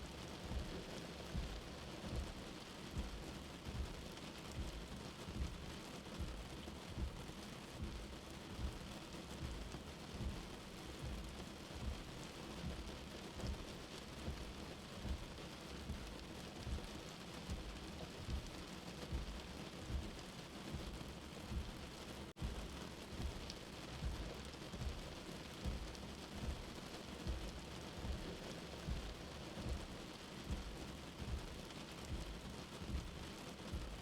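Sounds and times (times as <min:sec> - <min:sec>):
soft low heartbeat: 0:00.0 - 0:34.0
steady rain: 0:00.0 - 0:34.0.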